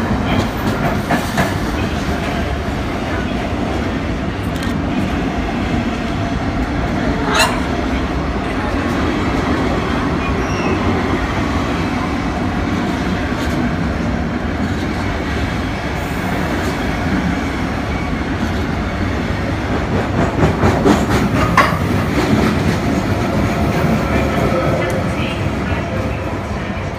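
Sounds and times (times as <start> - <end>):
train wagons rumbling past: 0.0 - 26.9.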